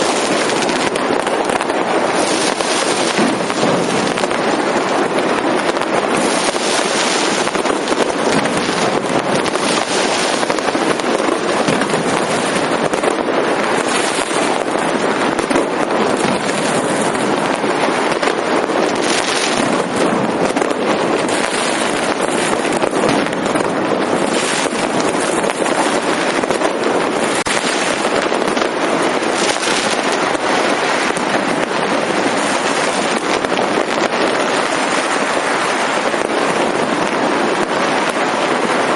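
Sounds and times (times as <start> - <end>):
fireworks and firecrackers crackling: 0.0 - 38.9.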